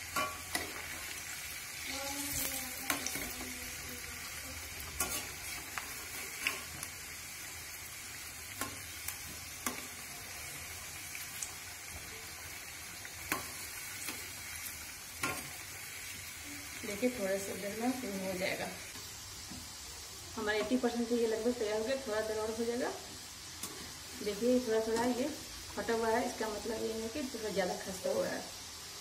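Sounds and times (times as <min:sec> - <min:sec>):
dough deep-frying in oil: 0:00.0 - 0:29.0.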